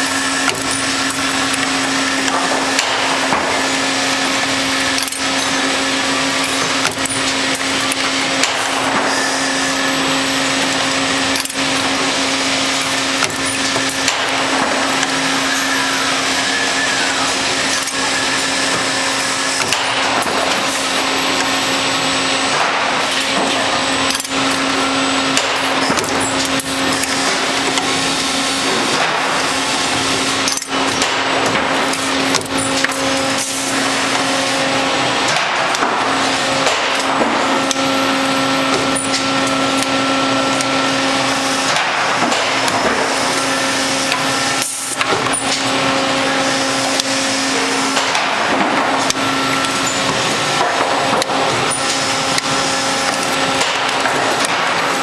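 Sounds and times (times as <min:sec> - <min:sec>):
spring-forming machine clatter: 0:00.0 - 0:55.0.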